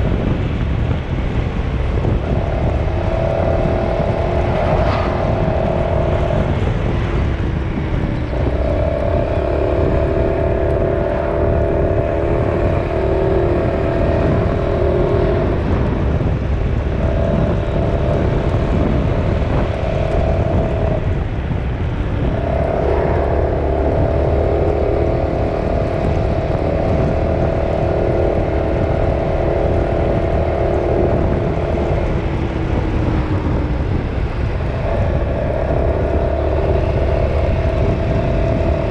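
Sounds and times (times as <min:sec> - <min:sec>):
steady hum: 0:00.0 - 0:38.9
vehicle engine rumble: 0:00.0 - 0:38.9.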